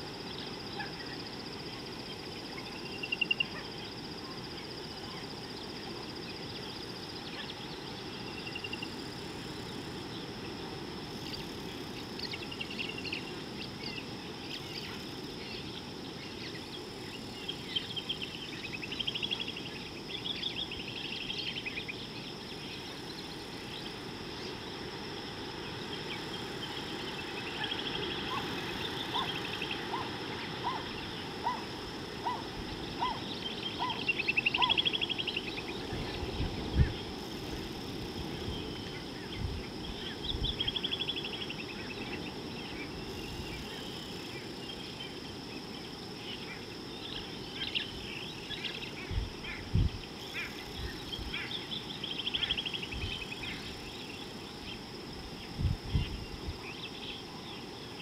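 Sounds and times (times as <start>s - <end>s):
wild birds calling: 0.0s - 24.9s, 25.5s - 54.8s
insect drone: 0.0s - 58.0s.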